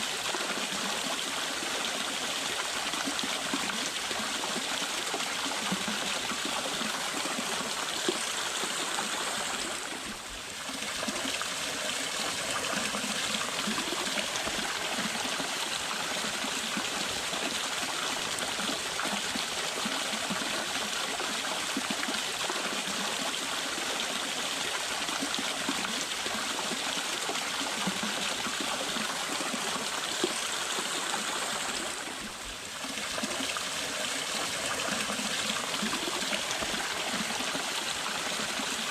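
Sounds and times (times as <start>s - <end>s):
waterfall water flowing: 0.0s - 38.9s.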